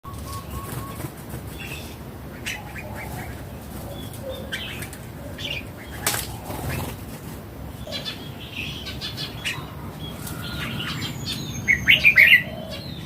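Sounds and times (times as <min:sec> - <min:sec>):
bird chirping: 0:00.0 - 0:07.0, 0:07.7 - 0:13.0.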